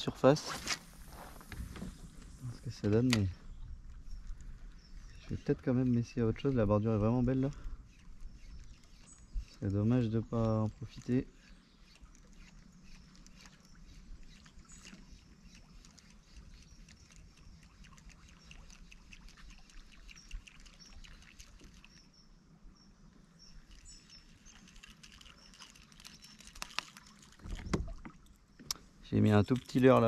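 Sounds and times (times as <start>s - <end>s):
small ticks and patters: 0.8s - 22.3s, 23.4s - 30.0s
faint high bird chirps: 3.2s - 6.6s, 7.2s - 28.8s.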